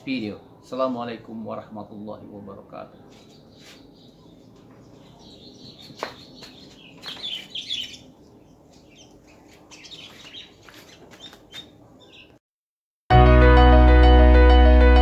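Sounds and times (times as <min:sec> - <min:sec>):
small birds chirping: 0:00.0 - 0:12.4.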